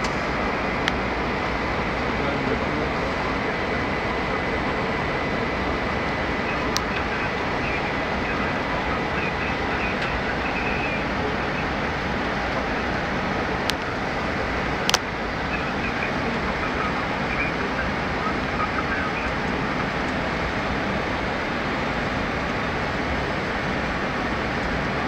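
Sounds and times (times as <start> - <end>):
airflow and engine noise: 0.0 - 25.0.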